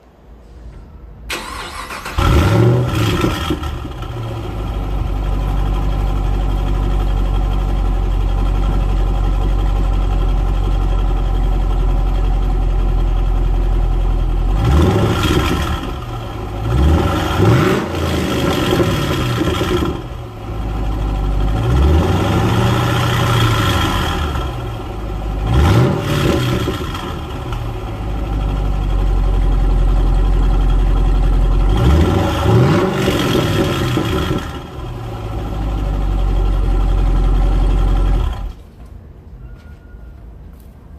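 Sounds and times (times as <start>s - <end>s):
car engine idling and revving: 1.3s - 38.6s.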